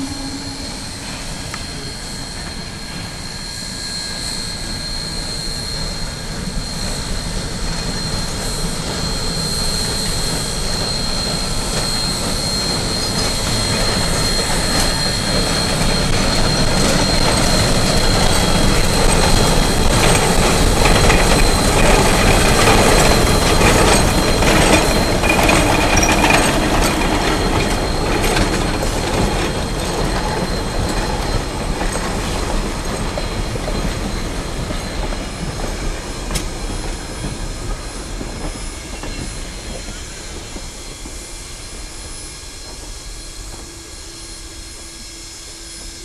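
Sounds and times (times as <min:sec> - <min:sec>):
train wheels clattering with squeal: 0:00.0 - 0:46.0.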